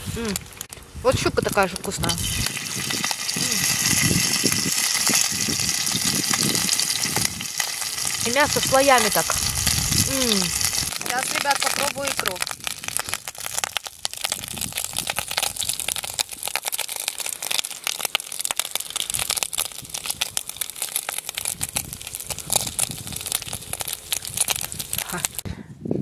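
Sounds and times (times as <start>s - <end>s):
fish frying in hot oil: 1.7s - 25.4s.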